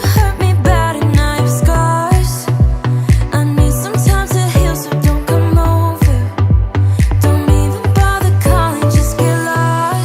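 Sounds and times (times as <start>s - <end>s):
pop music with drum beat: 0.0s - 10.0s.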